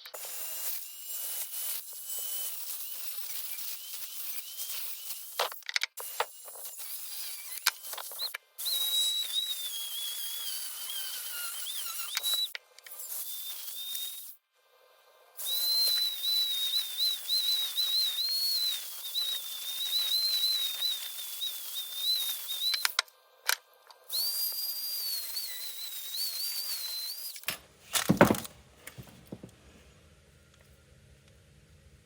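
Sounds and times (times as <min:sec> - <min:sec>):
rotary tool whining: 0:00.0 - 0:14.4, 0:15.0 - 0:29.5.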